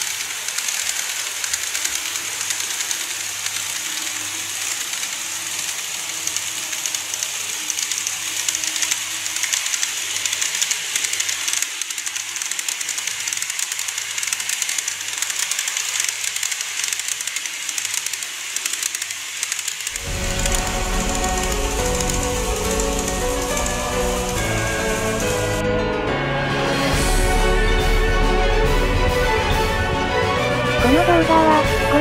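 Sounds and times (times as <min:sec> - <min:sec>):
faint motor hum: 0:00.0 - 0:25.6
model train hiss: 0:00.0 - 0:25.6
wheels rattling on rails: 0:00.0 - 0:25.6.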